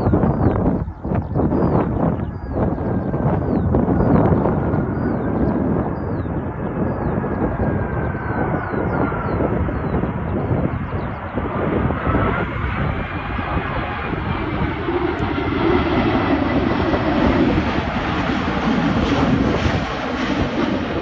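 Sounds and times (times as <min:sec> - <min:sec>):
jet engines whining: 0:00.0 - 0:21.0
wind buffeting microphone: 0:00.0 - 0:21.0.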